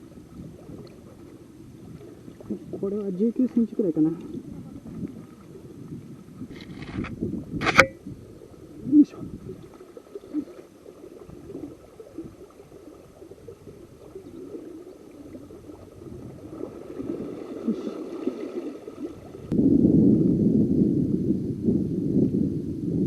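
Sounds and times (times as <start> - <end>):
river water flowing: 0.0 - 19.5.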